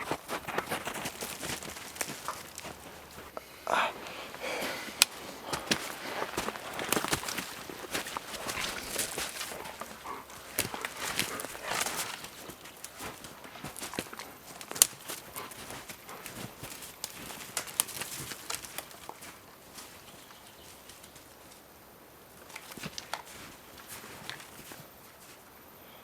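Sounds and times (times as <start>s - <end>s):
footsteps crunching on trail: 0.0s - 25.6s.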